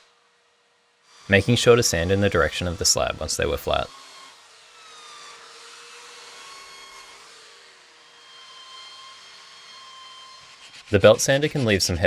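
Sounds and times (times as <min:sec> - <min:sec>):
belt sander grinding wood: 0:00.0 - 0:12.0.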